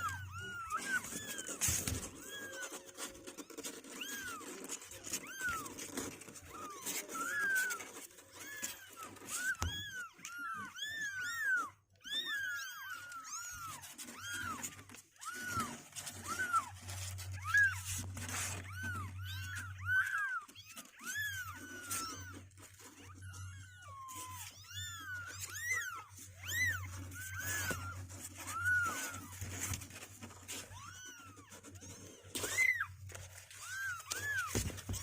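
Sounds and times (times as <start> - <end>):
kittens mewing: 0.0 - 35.0.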